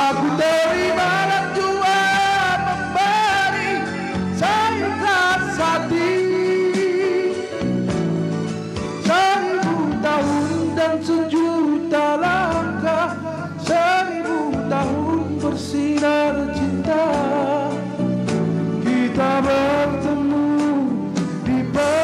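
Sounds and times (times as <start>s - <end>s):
man singing with vibrato: 0.0s - 7.8s, 8.9s - 22.0s
instrumental backing music: 0.0s - 22.0s.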